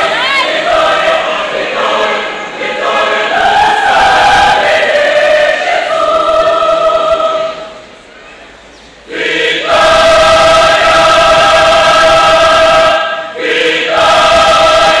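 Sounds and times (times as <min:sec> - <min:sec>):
mixed choir singing: 0:00.0 - 0:07.9, 0:09.0 - 0:15.0.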